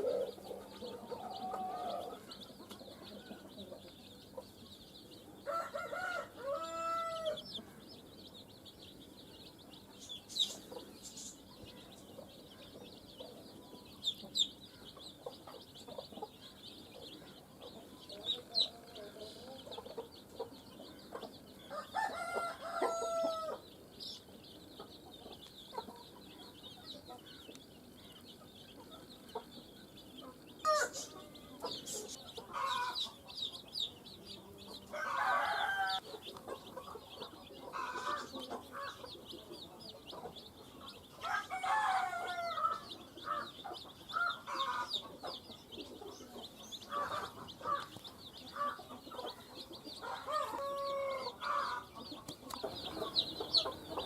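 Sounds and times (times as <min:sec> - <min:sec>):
adult chickens clucking: 0:00.0 - 0:54.0
chicks peeping: 0:00.0 - 0:54.0.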